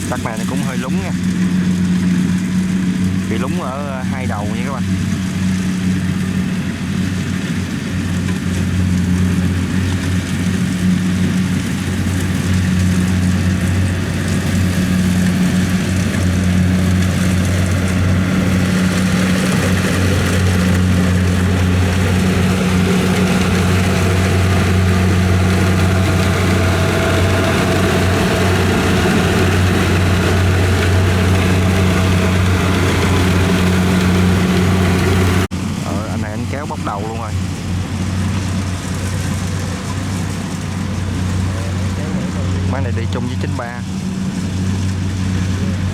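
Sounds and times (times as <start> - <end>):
combine harvester diesel engine: 0.0 - 45.9.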